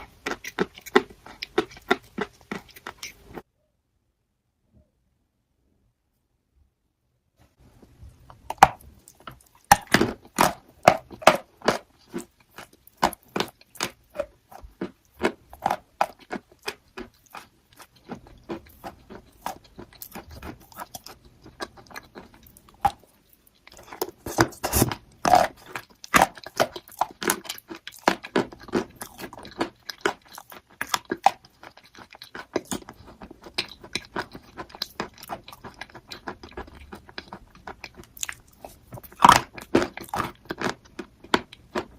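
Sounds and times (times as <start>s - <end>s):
chalk being chewed: 0.0s - 3.4s, 10.4s - 41.9s.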